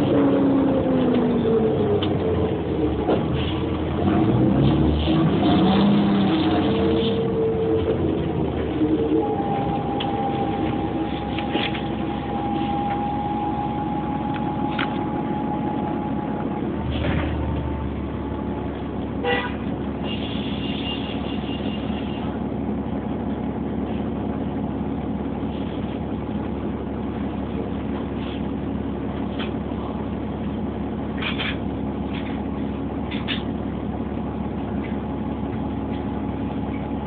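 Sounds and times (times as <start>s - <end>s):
bus engine idling: 0.0s - 37.0s
bus engine whine: 0.0s - 37.0s.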